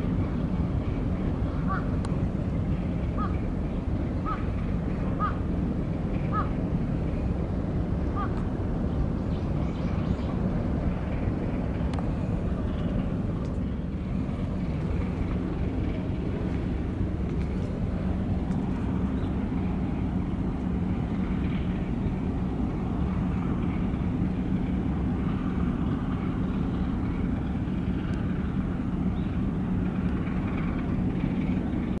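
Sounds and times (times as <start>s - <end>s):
low machinery drone: 0.0s - 32.0s.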